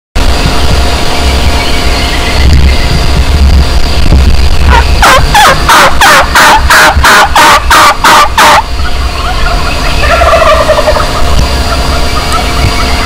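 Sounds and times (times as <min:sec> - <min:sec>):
harsh locator calls: 0:00.2 - 0:13.0
fainter wavering calls: 0:01.1 - 0:13.0.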